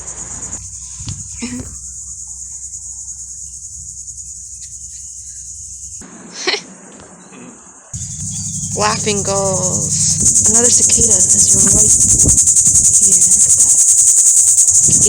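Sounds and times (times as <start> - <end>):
cicadas buzzing: 0.0 - 6.0, 8.0 - 15.0
low rumble: 0.6 - 6.0, 8.0 - 15.0.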